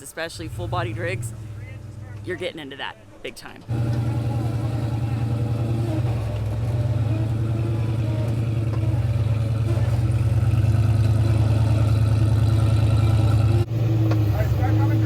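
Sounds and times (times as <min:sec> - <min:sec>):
off-road vehicle engine running: 0:00.0 - 0:02.5, 0:03.7 - 0:15.0.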